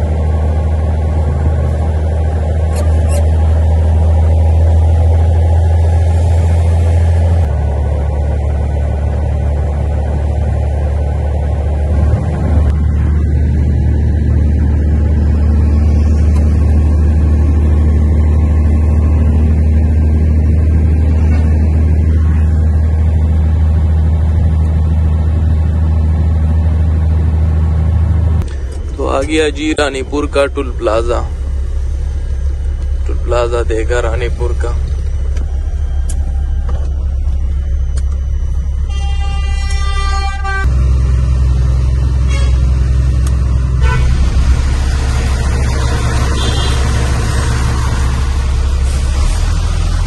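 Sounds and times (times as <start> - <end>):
road noise: 0.0 - 50.0
truck diesel engine drone: 0.0 - 50.0.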